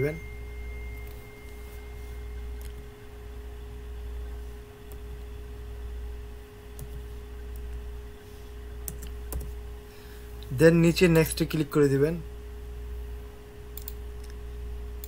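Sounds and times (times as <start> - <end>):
faint constant tone: 0.0 - 15.0
low electrical hum: 0.0 - 15.0.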